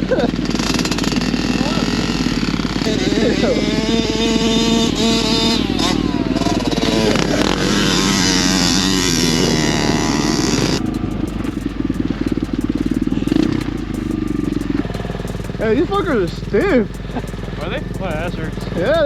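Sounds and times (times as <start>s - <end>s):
dull low engine rumble: 0.0s - 19.0s
small motorbike engines revving: 0.0s - 19.0s.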